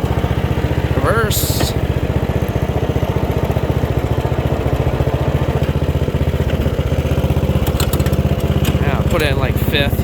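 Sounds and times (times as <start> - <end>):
lawnmower engine idling: 0.0 - 10.0.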